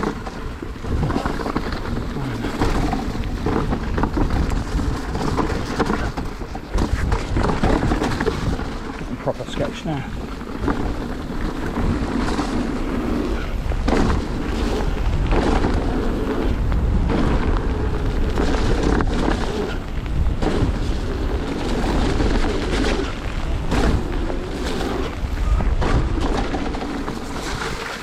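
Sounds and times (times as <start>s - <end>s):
bike knocking and rattling: 0.0s - 28.0s
wind buffeting microphone: 0.0s - 28.0s.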